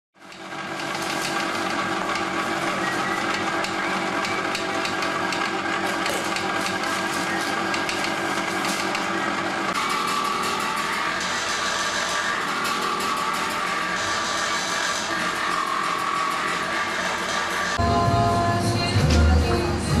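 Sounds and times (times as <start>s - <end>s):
mechanical hum: 0.2s - 20.0s.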